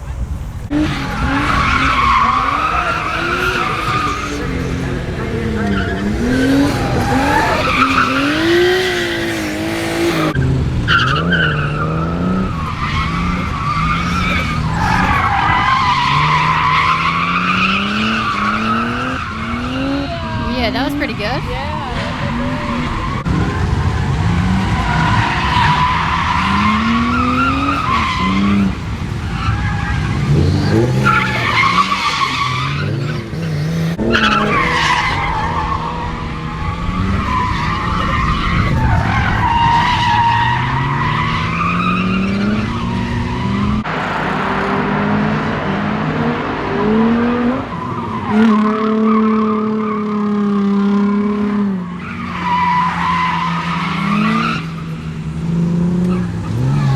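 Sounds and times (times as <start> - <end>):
tyres squealing: 0.0 - 43.8, 51.0 - 56.9
car engine revving: 0.0 - 56.9.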